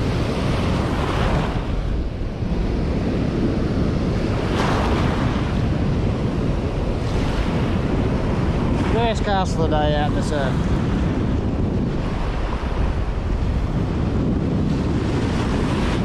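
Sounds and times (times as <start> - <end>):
surf washing in and out: 0.0 - 16.0
wind buffeting microphone: 0.0 - 16.0.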